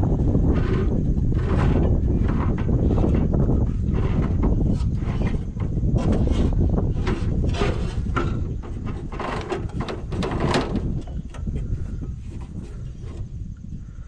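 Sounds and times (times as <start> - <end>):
low steady rumble: 0.0 - 14.0
scraping and knocking on engine belts: 0.0 - 14.0.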